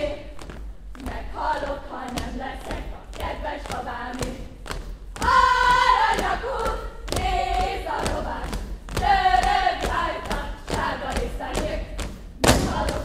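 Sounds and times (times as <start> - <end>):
feet stamping on stage floor: 0.0 - 13.0
group of voices singing: 1.0 - 4.6, 5.2 - 13.0.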